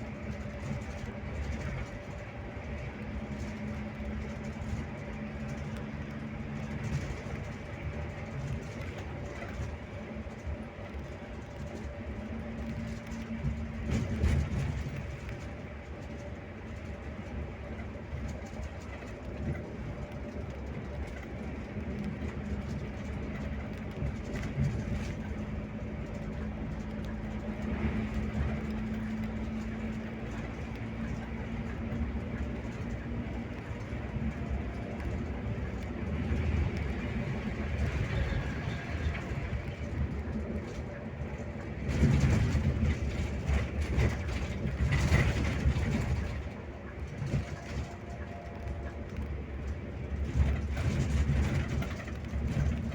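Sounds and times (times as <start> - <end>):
bus engine drone: 0.0 - 52.9
road rumble: 0.0 - 52.9.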